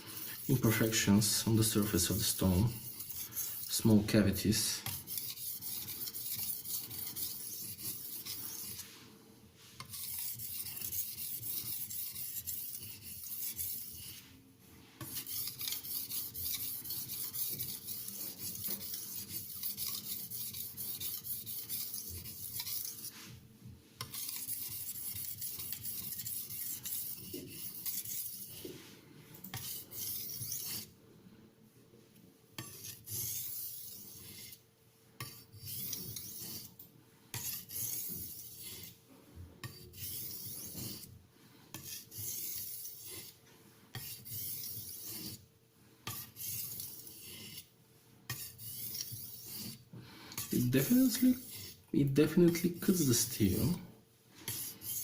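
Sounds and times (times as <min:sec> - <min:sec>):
knife scraping on whetstone: 0:00.0 - 0:04.1, 0:04.7 - 0:09.0, 0:09.8 - 0:14.4, 0:15.0 - 0:23.4, 0:24.0 - 0:30.9, 0:32.6 - 0:34.6, 0:35.2 - 0:39.0, 0:39.6 - 0:41.1, 0:41.7 - 0:53.8, 0:54.4 - 0:55.0.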